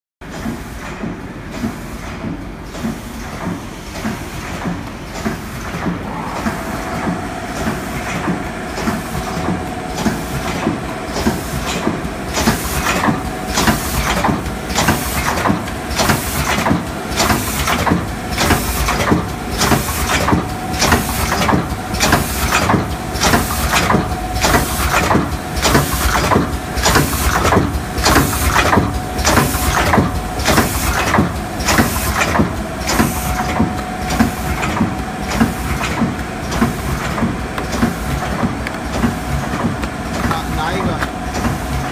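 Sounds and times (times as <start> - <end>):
machine whine: 3.6 - 41.9
machine table clacking: 6.9 - 41.9.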